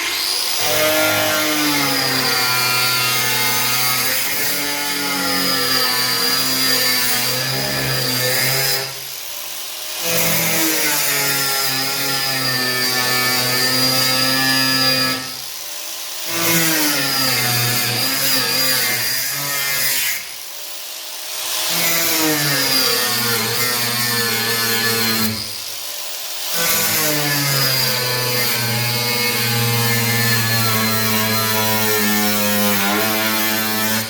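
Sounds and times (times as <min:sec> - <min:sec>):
angle grinder cutting steel: 0:00.0 - 0:34.0.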